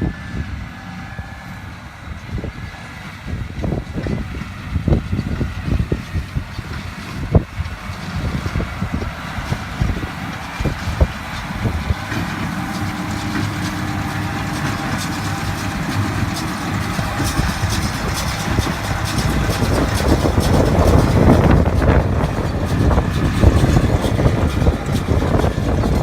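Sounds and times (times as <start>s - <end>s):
tractor diesel engine drone: 0.0s - 26.0s.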